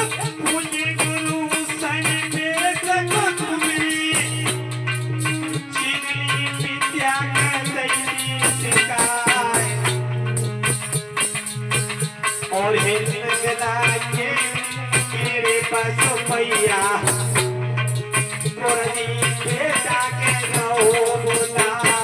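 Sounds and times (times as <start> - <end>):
drum strokes: 0.0 - 22.0
jingling shaken percussion: 0.0 - 22.0.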